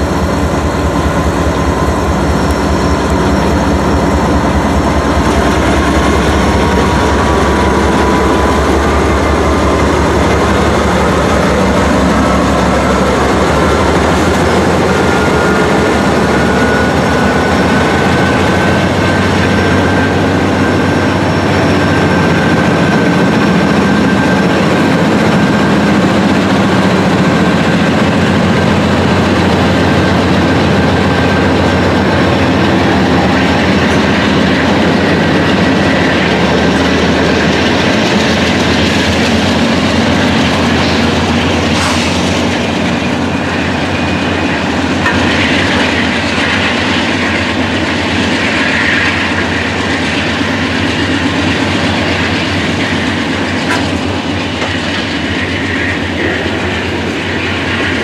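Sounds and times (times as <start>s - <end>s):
freight train passing: 0.0s - 58.0s
steel wheels clattering on rails: 0.0s - 58.0s.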